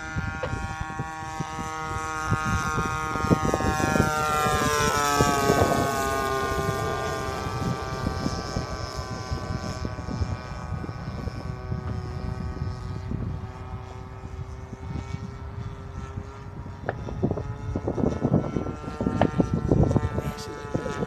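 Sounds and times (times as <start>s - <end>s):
model plane engine droning: 0.0s - 21.0s
wind buffeting microphone: 0.0s - 21.0s.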